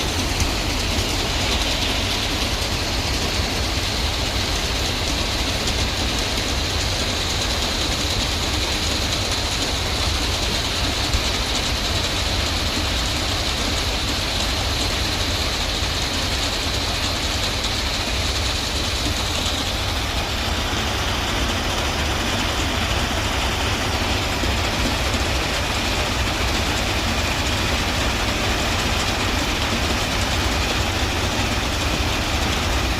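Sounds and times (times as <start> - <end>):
machine engine rumbling: 0.0 - 32.9.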